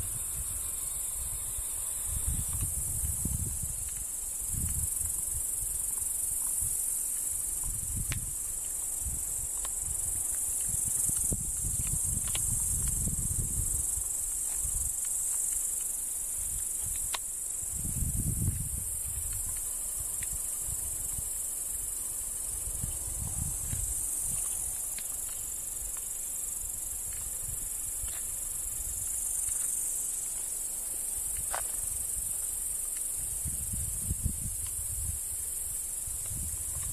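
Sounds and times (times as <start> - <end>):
wind rumbling on microphone: 0.0 - 30.2, 31.2 - 36.9
crickets chirring: 0.0 - 36.9.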